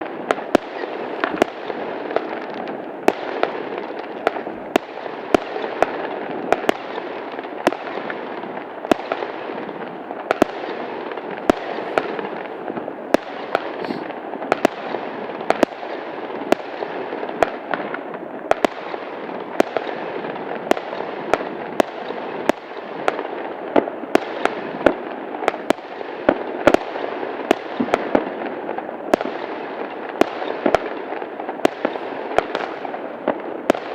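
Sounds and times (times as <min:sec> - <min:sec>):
fireworks bangs: 0:00.0 - 0:33.9
fireworks crackling: 0:00.0 - 0:33.9.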